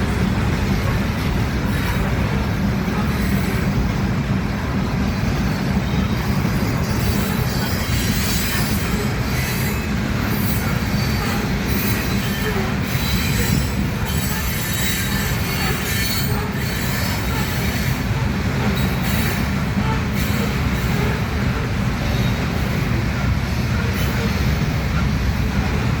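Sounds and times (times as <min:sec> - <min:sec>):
freight train rumbling past: 0:00.0 - 0:26.0
wheel squeal on rails: 0:00.7 - 0:04.0, 0:05.5 - 0:25.4.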